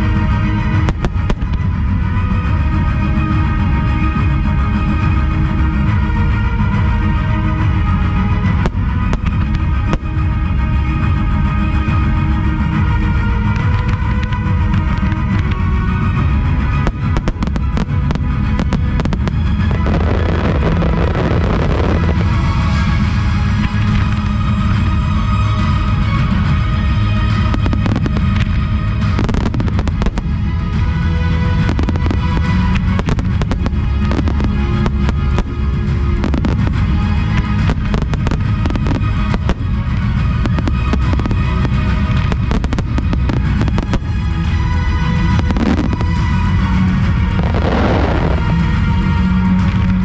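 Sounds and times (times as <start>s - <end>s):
fireworks bangs and crackling: 0.0s - 50.0s
music playing: 0.0s - 50.0s.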